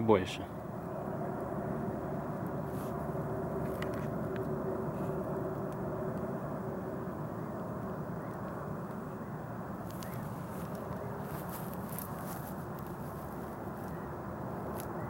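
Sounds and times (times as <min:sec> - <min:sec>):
distant engine drone: 0:00.0 - 0:15.0
faint hum: 0:00.0 - 0:15.0.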